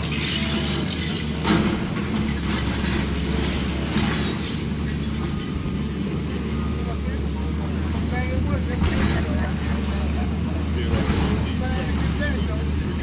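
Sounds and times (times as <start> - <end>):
demolition machinery engine drone: 0.0 - 13.0.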